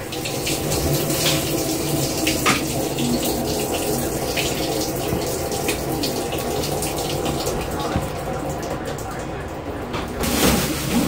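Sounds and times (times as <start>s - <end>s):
water pouring into washer tub: 0.0s - 11.0s
water splashes: 0.0s - 11.0s.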